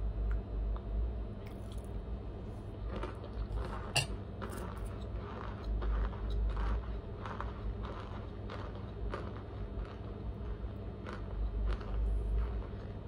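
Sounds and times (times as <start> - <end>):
person chewing crunchy food: 1.4 - 13.0.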